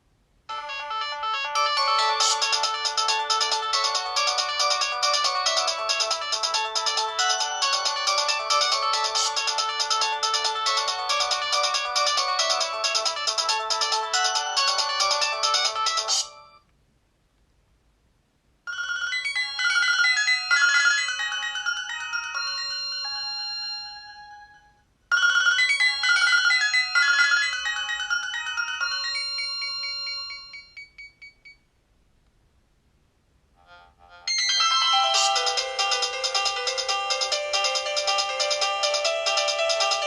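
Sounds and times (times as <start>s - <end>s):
mobile phone ringtone melody: 0.5s - 16.6s, 18.7s - 31.6s, 33.7s - 40.0s.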